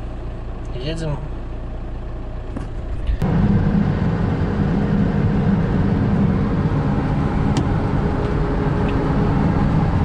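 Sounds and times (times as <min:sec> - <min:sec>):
road rumble: 0:00.0 - 0:10.0
van engine driving off: 0:00.0 - 0:10.0.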